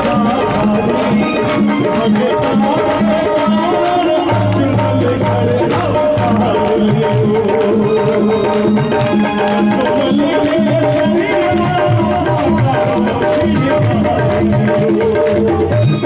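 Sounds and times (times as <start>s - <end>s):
brisk hand-drum beat: 0.0s - 16.0s
devotional music over loudspeakers: 0.0s - 16.0s.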